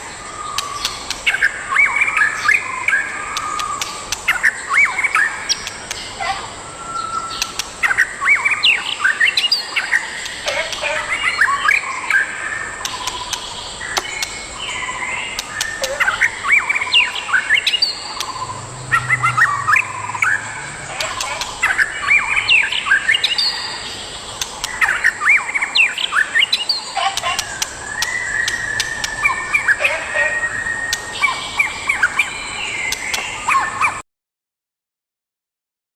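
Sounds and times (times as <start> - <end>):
bird singing whistled notes: 0.2 - 10.4, 11.0 - 24.0, 24.6 - 34.0.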